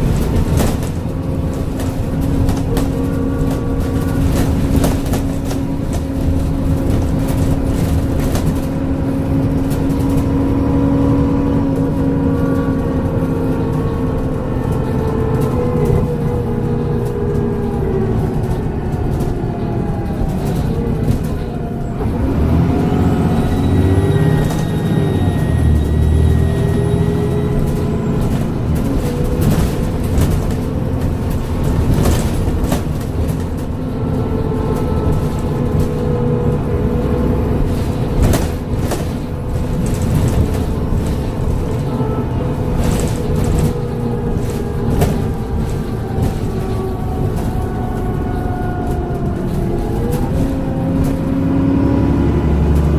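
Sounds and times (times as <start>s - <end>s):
body rattles: 0.0s - 21.9s, 24.4s - 51.9s
bus engine drone: 0.0s - 52.9s.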